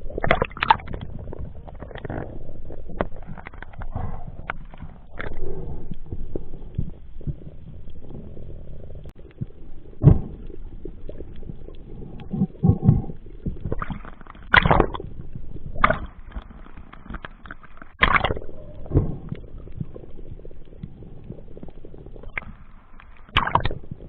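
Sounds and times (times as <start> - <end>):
underwater water gurgling: 0.0 - 24.0.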